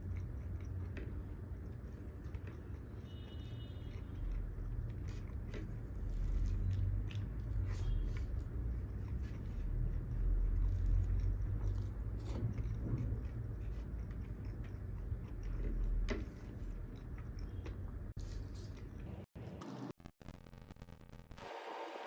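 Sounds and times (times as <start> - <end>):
chewing and biting food: 0.0 - 19.0.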